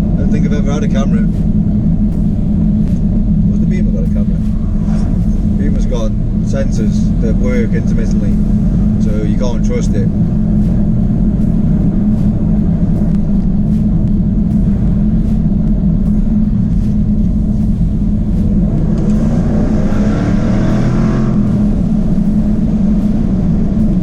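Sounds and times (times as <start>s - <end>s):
car engine droning: 0.0s - 24.0s
rising whine: 0.0s - 24.0s.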